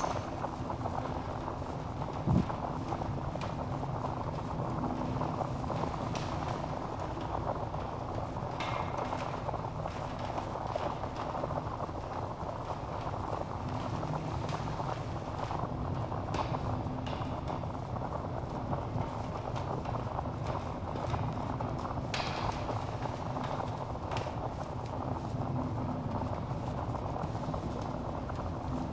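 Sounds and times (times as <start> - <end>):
wood fire burning: 0.0 - 28.9.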